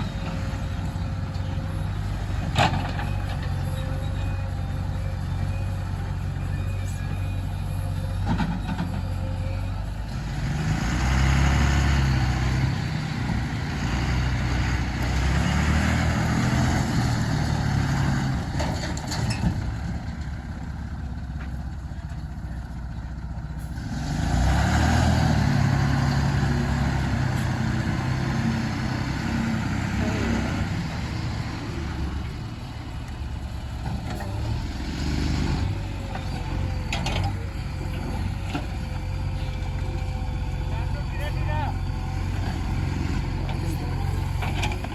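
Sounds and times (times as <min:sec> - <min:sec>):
diesel engine revving under load: 0:00.0 - 0:21.3, 0:23.1 - 0:44.9.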